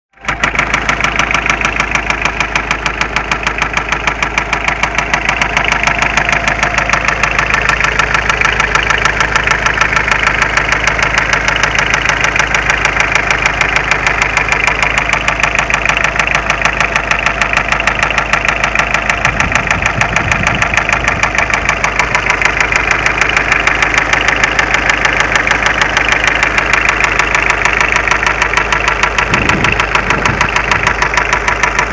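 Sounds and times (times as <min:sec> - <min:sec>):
diesel engine knocking: 0:00.1 - 0:31.9.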